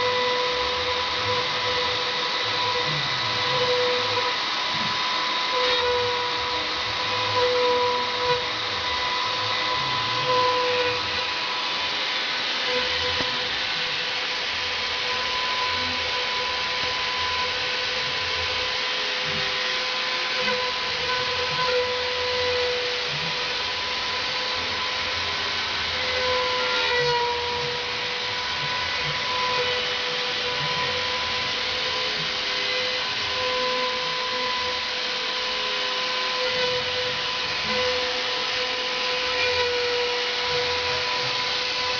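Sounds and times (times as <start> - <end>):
router machine whine and rushing: 0.0 - 41.9.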